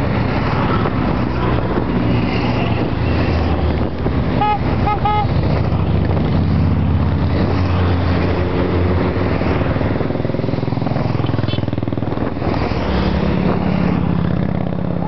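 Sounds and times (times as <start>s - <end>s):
motorcycles riding past: 0.0s - 15.0s.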